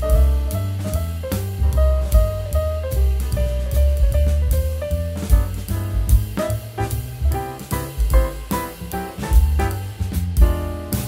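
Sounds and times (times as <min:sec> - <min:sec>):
jazz music with drums and horns: 0:00.0 - 0:11.0.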